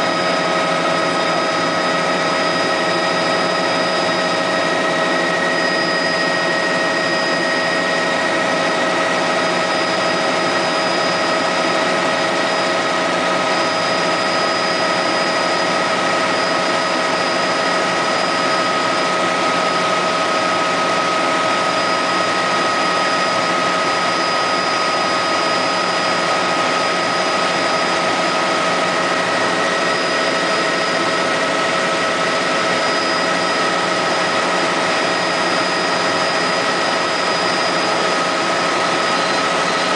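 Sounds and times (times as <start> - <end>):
helicopter engine and rotor drone: 0.0 - 39.9
high whining tones: 0.0 - 39.9.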